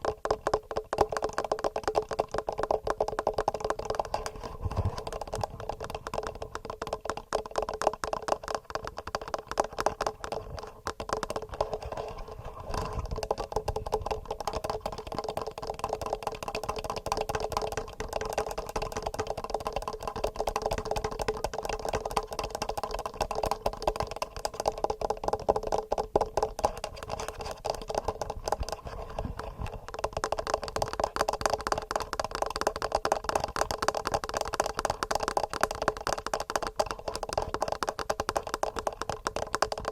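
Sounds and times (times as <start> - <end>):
fingernails tapping on microphone: 0.0 - 39.9.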